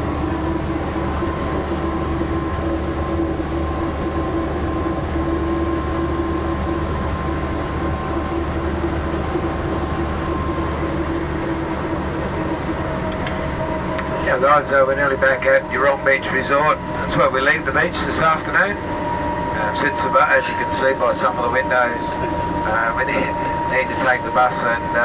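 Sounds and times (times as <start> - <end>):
bus engine drone inside cabin: 0.0 - 25.0.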